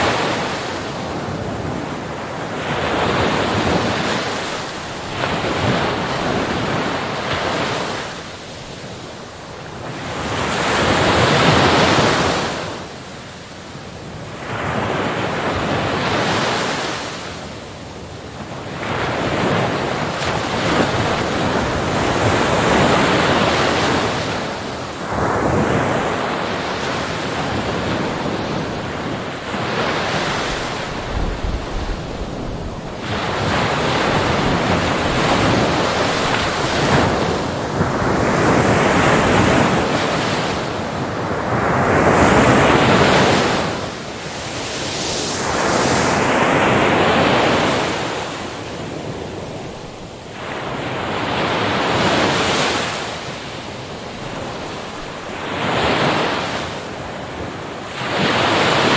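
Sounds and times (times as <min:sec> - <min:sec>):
wind on microphone: 0:00.0 - 0:13.0, 0:14.0 - 0:58.9
ocean waves breaking on beach: 0:00.0 - 0:58.9.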